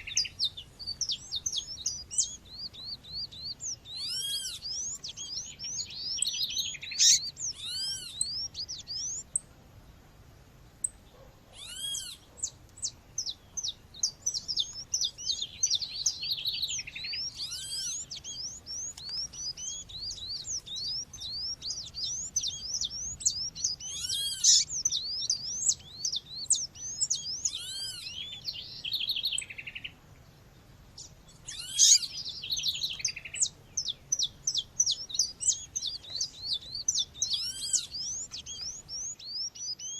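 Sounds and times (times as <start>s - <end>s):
seedeater chirping: 0.0s - 9.2s, 11.6s - 29.7s, 31.4s - 39.9s
loud arched bird calls: 0.0s - 9.4s, 11.1s - 30.3s, 31.0s - 39.9s
background birdsong: 0.0s - 39.9s.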